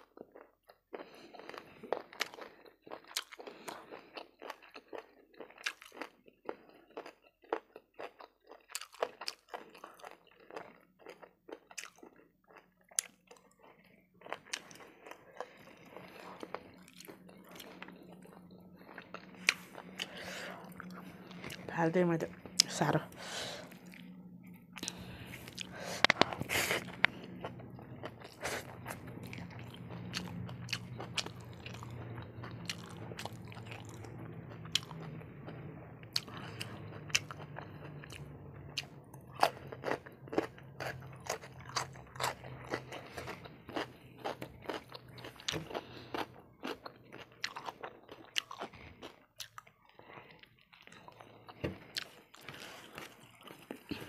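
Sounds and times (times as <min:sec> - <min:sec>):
chewing crunchy food: 0:00.0 - 0:54.0.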